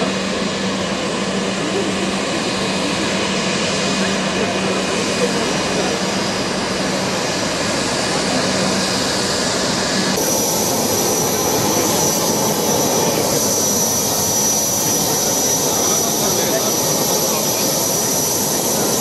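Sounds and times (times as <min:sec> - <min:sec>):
high-pitched jet whine: 0:00.0 - 0:19.0
jet engines rushing: 0:00.0 - 0:19.0.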